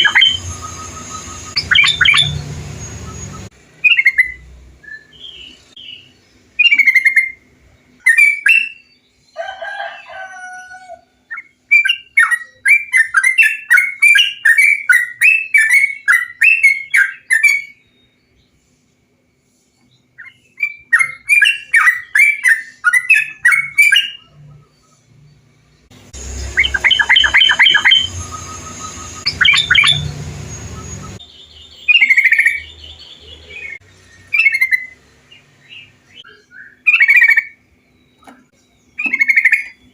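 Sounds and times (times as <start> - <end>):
bulbuls singing: 0.0 - 17.8, 20.0 - 39.9.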